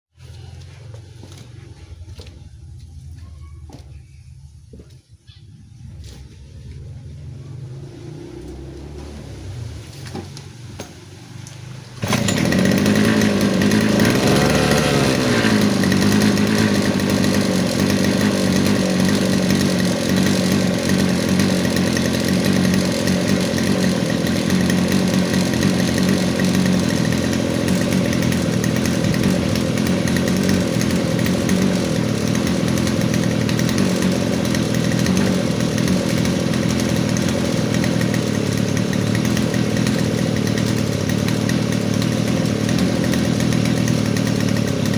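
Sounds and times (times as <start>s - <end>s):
lawn mower engine revving: 5.7s - 44.9s.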